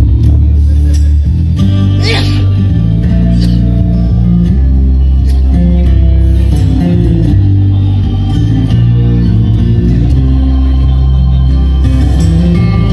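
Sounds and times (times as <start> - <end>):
deep bass notes: 0.0 - 12.9
music through car speakers: 0.0 - 12.9
plucked guitar: 0.0 - 12.9.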